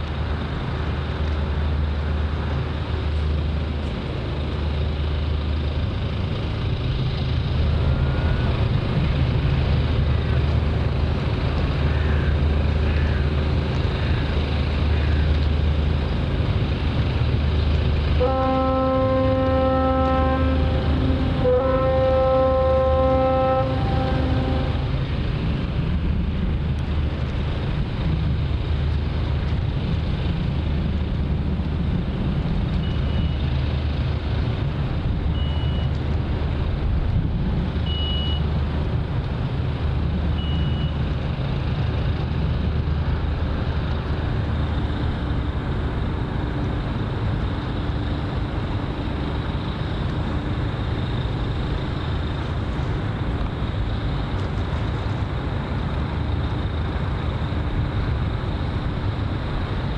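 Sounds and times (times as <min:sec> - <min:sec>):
low engine rumble: 0:00.0 - 0:59.9.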